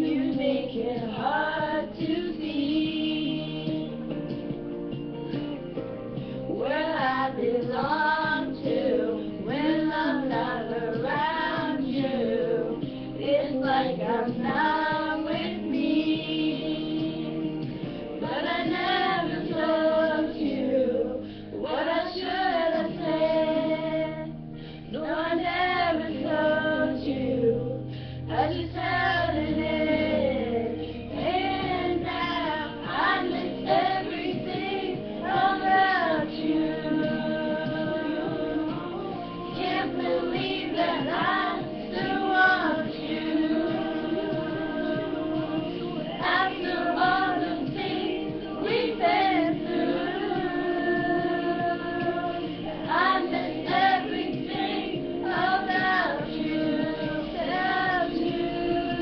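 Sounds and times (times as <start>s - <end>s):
accompanying music: 0.0s - 59.0s
girls singing pop ballad: 0.0s - 59.0s.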